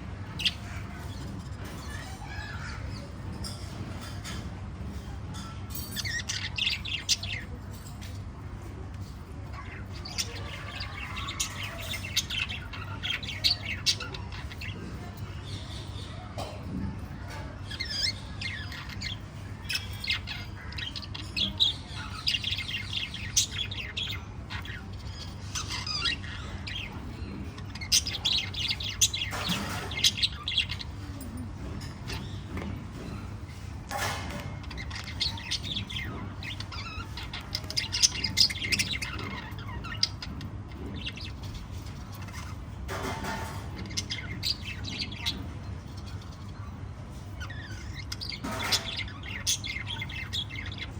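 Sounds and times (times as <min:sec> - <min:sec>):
parrots chirping and chattering: 0:00.0 - 0:50.9.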